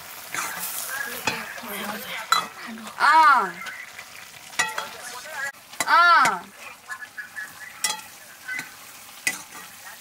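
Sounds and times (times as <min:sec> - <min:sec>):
ladle stirring and scraping pan: 0:00.0 - 0:06.8, 0:07.4 - 0:09.8
food sizzling in a pan: 0:00.0 - 0:10.0.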